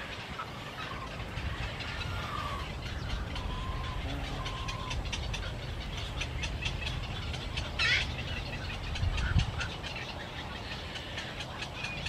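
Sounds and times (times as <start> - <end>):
birds chirping: 0.0 - 12.0
whistled bird calls: 0.0 - 12.0
steady low rumble: 0.5 - 12.0.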